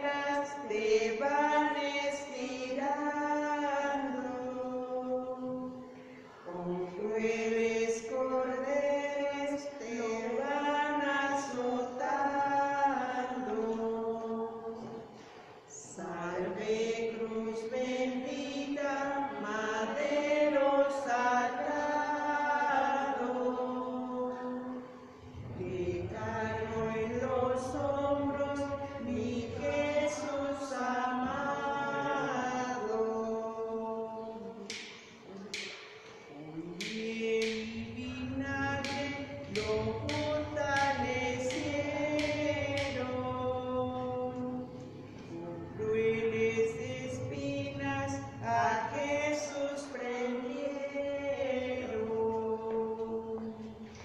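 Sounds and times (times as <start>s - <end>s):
slow hymn singing: 0.0s - 54.0s.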